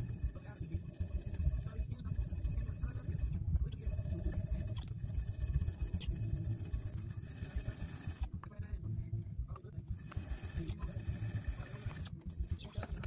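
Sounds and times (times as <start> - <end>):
potter's wheel rumble: 0.0 - 8.7, 9.4 - 13.0.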